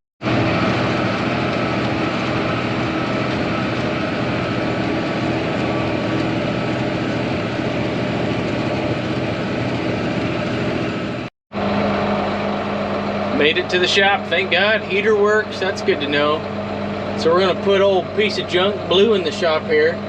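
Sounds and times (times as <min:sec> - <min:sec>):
tractor diesel engine running: 0:00.2 - 0:20.0.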